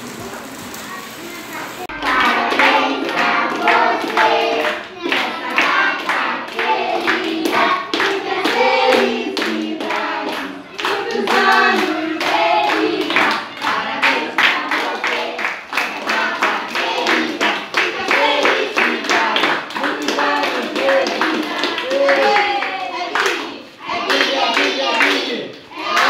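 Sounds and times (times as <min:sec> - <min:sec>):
group singing a birthday song: 0:01.8 - 0:26.0
hand-clapping in time: 0:02.0 - 0:23.4.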